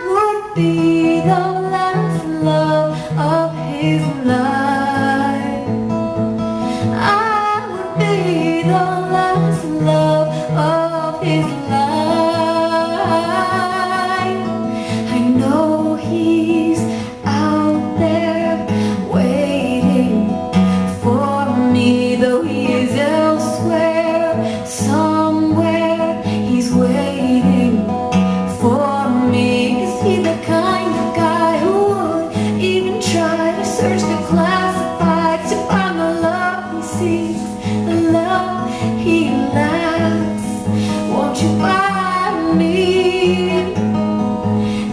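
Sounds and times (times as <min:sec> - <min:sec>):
strummed acoustic guitar: 0:00.0 - 0:44.9
woman singing: 0:00.0 - 0:44.9.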